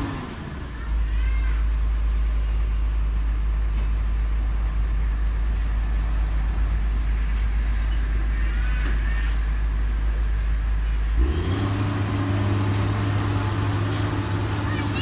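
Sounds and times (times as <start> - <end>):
heavy diesel machinery rumbling: 0.0 - 15.0.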